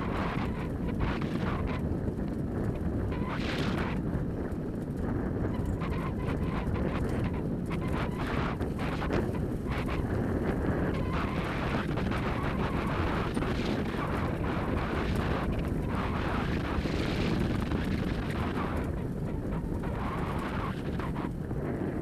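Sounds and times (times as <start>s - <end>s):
rolling rumble of wheeled rig: 0.0s - 22.0s
small rattles and clicks: 0.0s - 22.0s
wind buffeting microphone: 0.0s - 22.0s.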